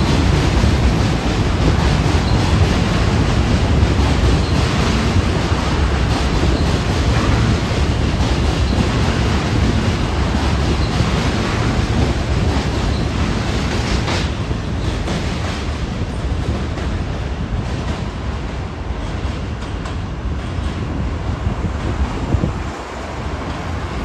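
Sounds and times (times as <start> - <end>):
rail clicks: 0.0 - 24.0
train wheels rumbling on track: 0.0 - 24.0.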